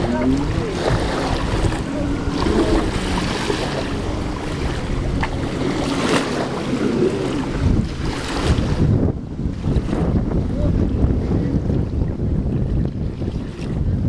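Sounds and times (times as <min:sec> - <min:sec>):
jet ski engine: 0:00.0 - 0:14.0
wind noise on microphone: 0:00.0 - 0:14.0.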